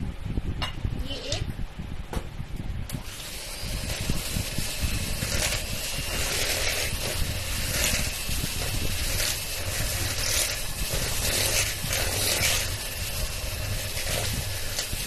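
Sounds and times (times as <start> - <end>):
electric hand mixer whirring: 2.9 - 15.0.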